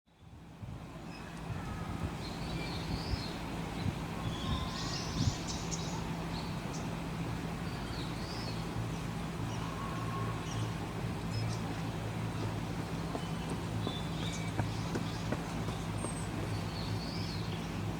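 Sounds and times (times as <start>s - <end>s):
steady low hum: 0.2s - 17.9s
small birds chirping: 1.1s - 17.9s.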